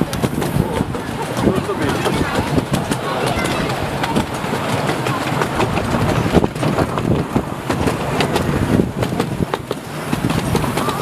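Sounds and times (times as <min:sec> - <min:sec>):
miniature steam train passing: 0:00.0 - 0:11.0
wheels clicking and rattling on track: 0:00.0 - 0:11.0.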